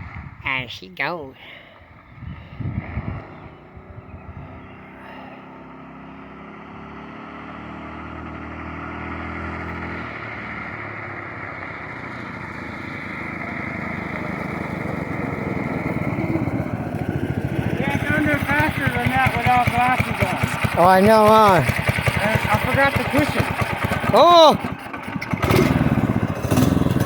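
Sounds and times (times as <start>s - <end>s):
trike engine running: 1.4s - 27.0s.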